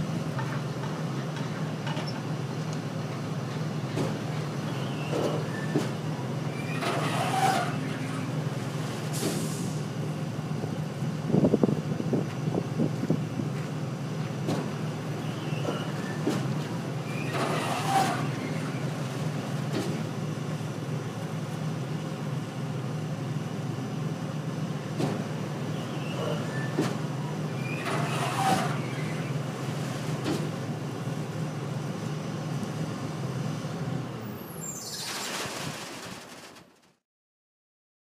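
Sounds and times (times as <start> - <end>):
truck hydraulic hum: 0.0 - 36.7.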